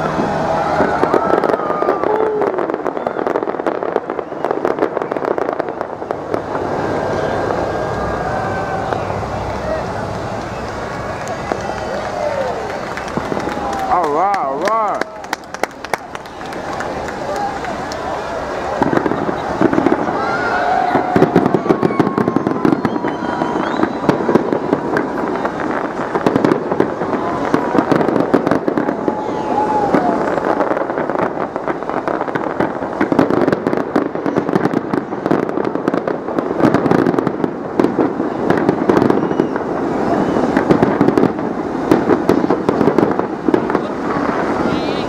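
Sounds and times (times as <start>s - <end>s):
fireworks bursts and crackling: 0.0s - 45.0s.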